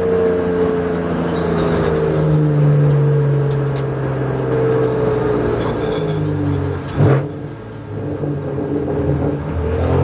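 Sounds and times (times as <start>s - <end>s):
race car engine from cockpit: 0.0s - 10.0s.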